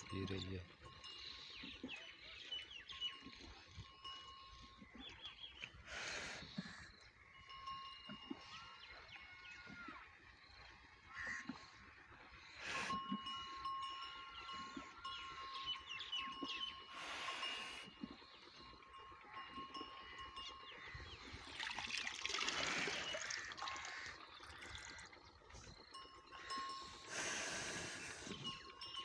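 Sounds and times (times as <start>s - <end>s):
birds chirping and whistling: 0.0s - 10.9s, 12.3s - 29.0s
water buffalo drinking: 0.1s - 29.0s.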